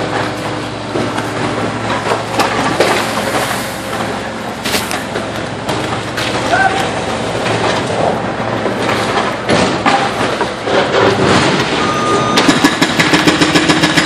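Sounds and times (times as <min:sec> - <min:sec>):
diesel truck engine running: 0:00.0 - 0:14.0
scraping and clatter of concrete: 0:00.0 - 0:14.0.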